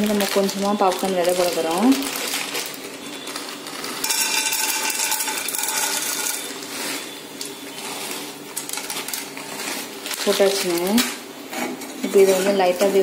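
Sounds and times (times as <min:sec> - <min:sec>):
popcorn kernels rattling in metal pan: 0:00.0 - 0:13.0.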